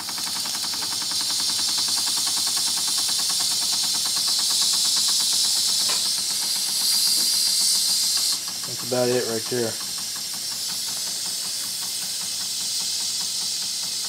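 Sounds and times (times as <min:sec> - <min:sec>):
model steam engine cylinder beating: 0:00.0 - 0:14.0
steam hissing from valve: 0:00.0 - 0:14.0.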